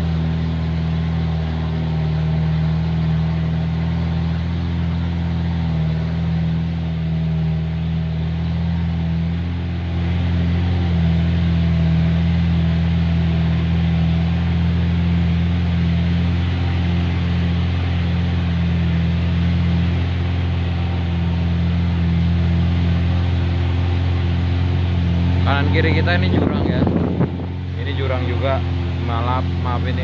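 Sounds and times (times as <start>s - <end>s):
truck engine under load: 0.0s - 30.0s.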